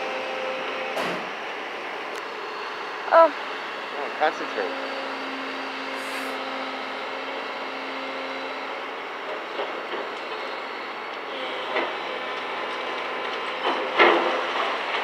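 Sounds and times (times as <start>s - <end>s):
excavator running: 0.0s - 15.0s.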